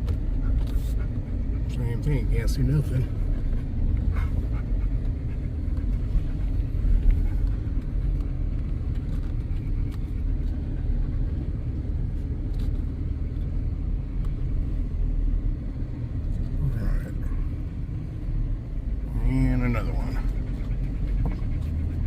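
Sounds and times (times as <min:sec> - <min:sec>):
off-road vehicle engine rumbling: 0:00.0 - 0:22.0.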